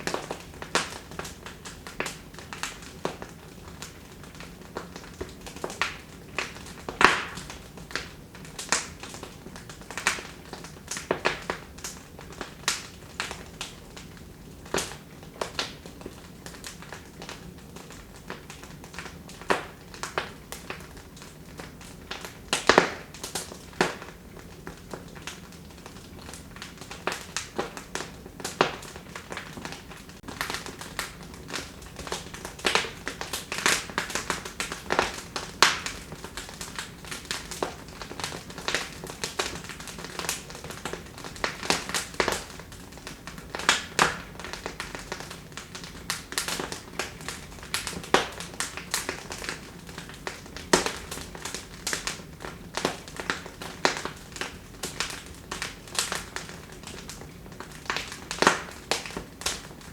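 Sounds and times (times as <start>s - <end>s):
soft hiss of burning logs: 0.0s - 59.9s
wood fire crackling and popping: 0.0s - 59.9s.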